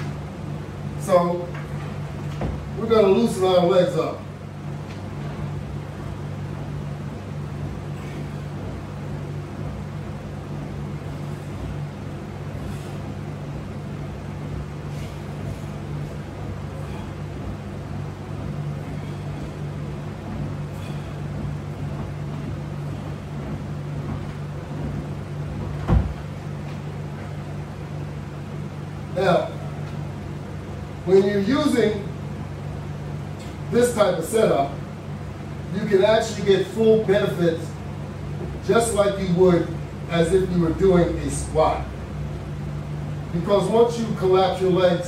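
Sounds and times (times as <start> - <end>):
air conditioner humming: 0.0 - 45.0.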